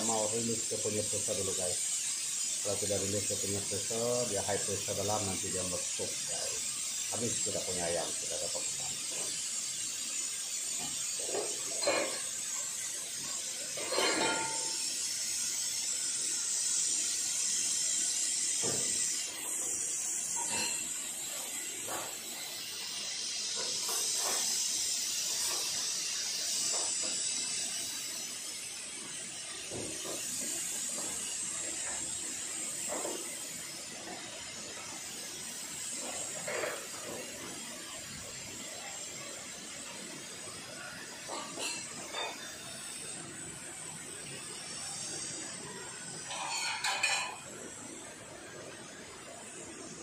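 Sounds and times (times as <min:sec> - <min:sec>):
pressure cooker steam hissing: 0:00.0 - 0:50.0.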